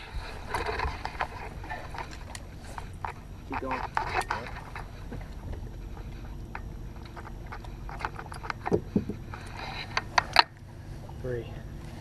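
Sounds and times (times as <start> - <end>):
boat engine rumble: 0.0 - 12.0
faint hum: 0.0 - 12.0
clicks of tackle handling: 0.4 - 10.7.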